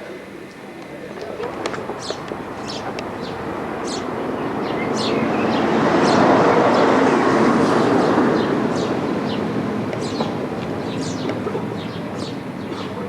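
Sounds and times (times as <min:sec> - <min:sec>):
birds chirping: 0:01.0 - 0:13.0
vehicle passing by: 0:01.5 - 0:12.4.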